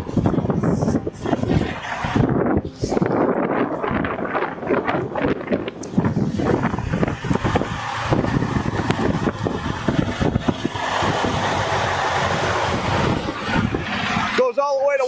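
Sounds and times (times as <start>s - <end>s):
wind buffeting microphone: 0.0s - 14.8s
vehicle rumble: 0.0s - 15.0s.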